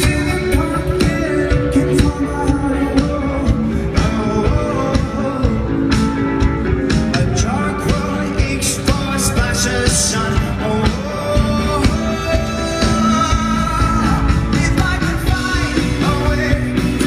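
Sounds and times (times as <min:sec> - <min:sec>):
guitars: 0:00.0 - 0:17.0
person singing: 0:00.0 - 0:17.0
rock band playing live: 0:00.0 - 0:17.0.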